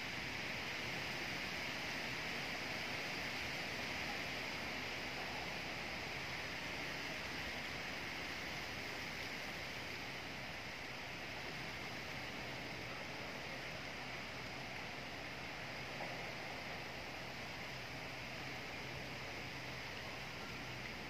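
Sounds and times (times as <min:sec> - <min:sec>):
wind rustling tree leaves: 0:00.0 - 0:21.0.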